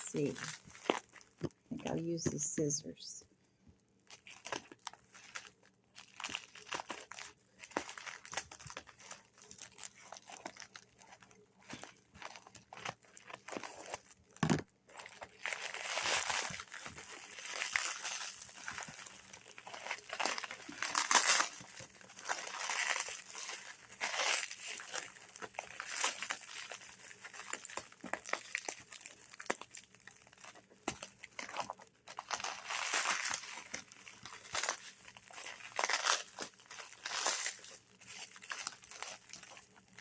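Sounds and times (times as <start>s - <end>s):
plastic tearing: 0.0s - 1.6s, 4.1s - 40.0s
plastic wrap crinkling: 0.0s - 2.8s, 4.0s - 40.0s.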